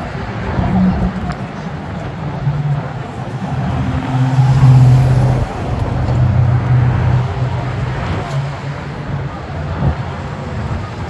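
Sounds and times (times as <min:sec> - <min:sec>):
traffic noise: 0:00.0 - 0:11.0
vehicle engine humming: 0:00.0 - 0:11.0.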